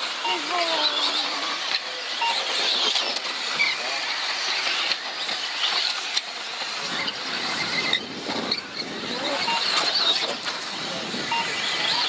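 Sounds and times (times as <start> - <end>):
model car motors whirring: 0.0 - 12.0.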